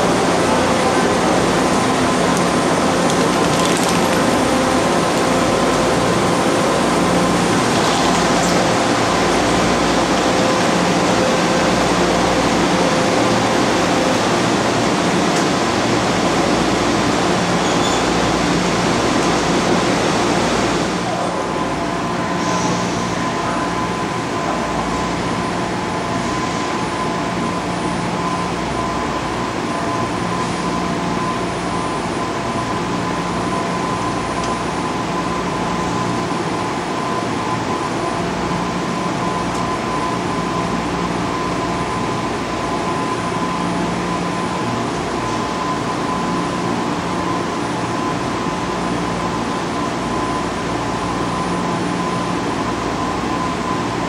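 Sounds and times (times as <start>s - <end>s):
train equipment humming: 0.0s - 54.0s.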